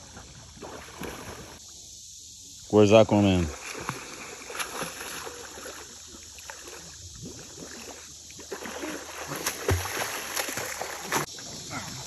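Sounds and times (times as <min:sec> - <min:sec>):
water splashing around a boat: 0:00.0 - 0:01.6, 0:03.1 - 0:12.0.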